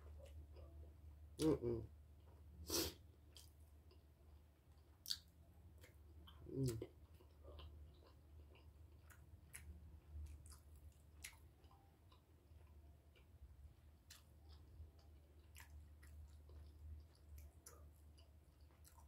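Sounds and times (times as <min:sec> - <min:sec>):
faint chewing: 0:00.0 - 0:19.0
low steady hum: 0:00.0 - 0:19.0.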